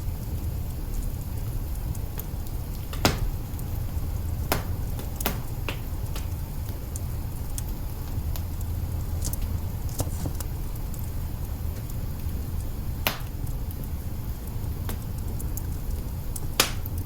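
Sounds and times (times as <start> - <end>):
log fire crackling: 0.0 - 17.0
low fire rumble: 0.0 - 17.0.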